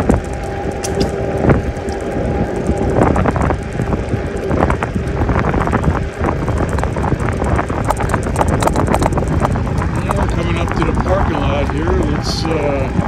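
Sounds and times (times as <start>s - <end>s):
faint steady whine: 0.0s - 13.0s
wind buffeting microphone: 0.0s - 13.0s.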